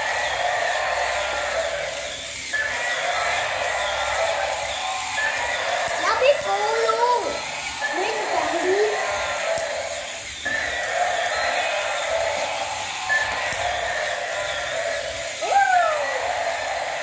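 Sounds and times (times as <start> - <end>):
toy motors whirring: 0.0 - 17.0.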